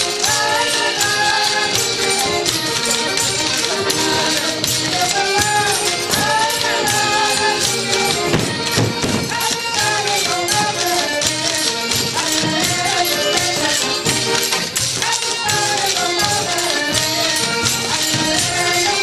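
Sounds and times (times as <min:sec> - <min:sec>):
accordion playing lively melody: 0:00.0 - 0:19.0
hand percussion beat: 0:00.0 - 0:19.0.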